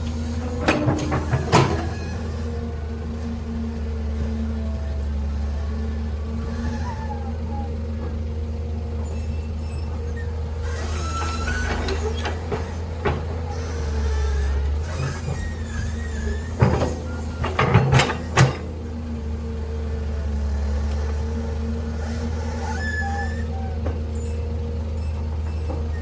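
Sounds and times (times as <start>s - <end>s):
heavy engine humming: 0.0s - 26.0s.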